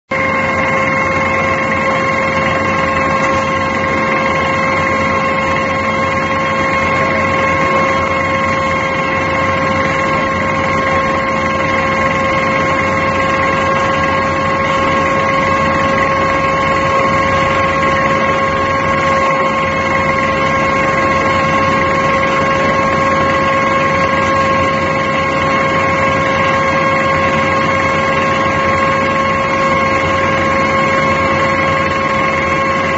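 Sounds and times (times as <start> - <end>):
drill rig running: 0.1 - 32.9
high machine whine: 0.1 - 32.9.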